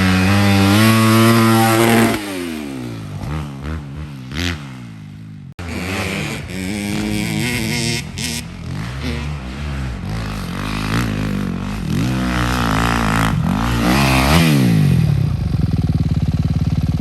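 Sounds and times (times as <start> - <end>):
dirt bike engines revving: 0.0 - 17.0
dirt bike running close by: 0.0 - 17.0.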